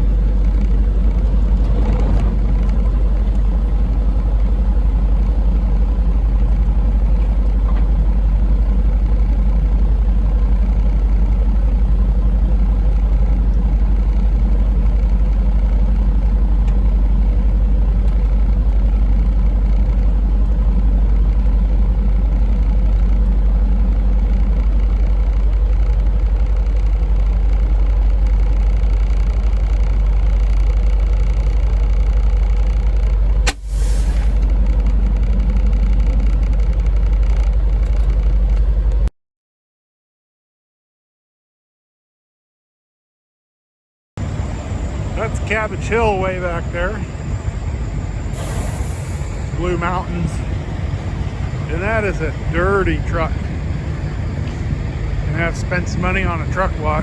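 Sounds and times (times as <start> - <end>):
truck engine and road drone: 0.0 - 39.1, 44.2 - 57.0.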